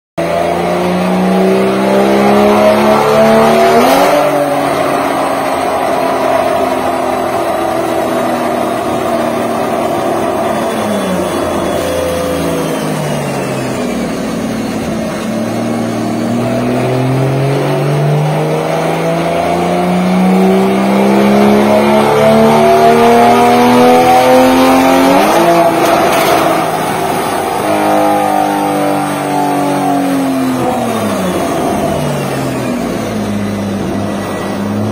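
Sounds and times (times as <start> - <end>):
car engine revving on a dyno: 0.2 - 34.9.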